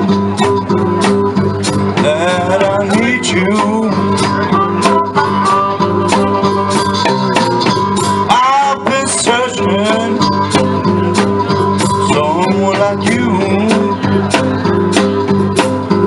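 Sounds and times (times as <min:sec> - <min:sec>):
guitar with bending notes: 0:00.0 - 0:16.0.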